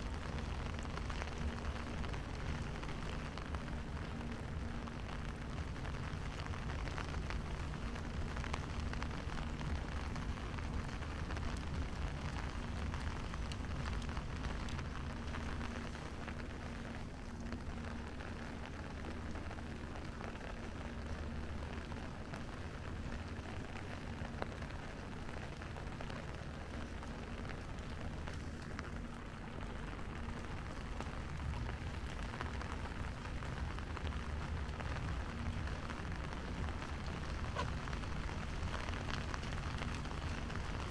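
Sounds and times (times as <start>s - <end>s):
faint hum: 0.0s - 40.9s
steady rain: 0.0s - 40.9s.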